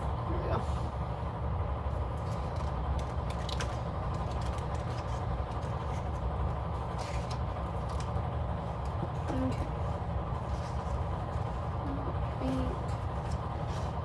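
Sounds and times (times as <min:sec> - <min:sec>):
steady low hum: 0:00.0 - 0:14.0
paper crackling and tapping: 0:02.1 - 0:14.0.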